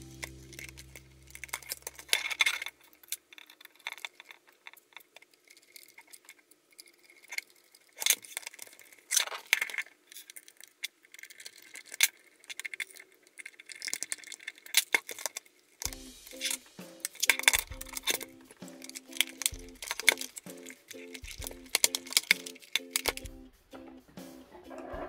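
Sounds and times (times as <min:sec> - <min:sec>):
plastic parts clicking and clattering: 0:01.4 - 0:23.3.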